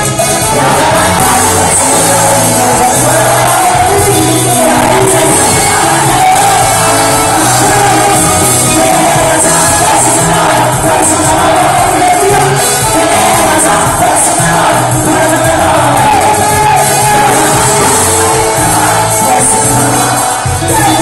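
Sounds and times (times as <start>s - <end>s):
crowd shouting: 0.0s - 21.0s
live band playing: 0.0s - 21.0s
person singing: 0.0s - 21.0s.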